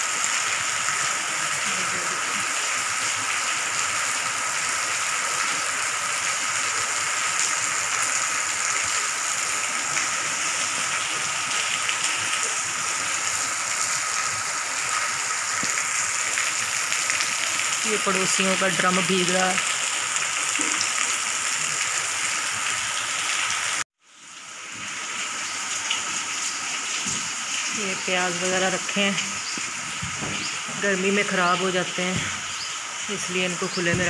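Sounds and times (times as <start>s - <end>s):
heavy rain on pavement and rooftops: 0.0s - 34.0s.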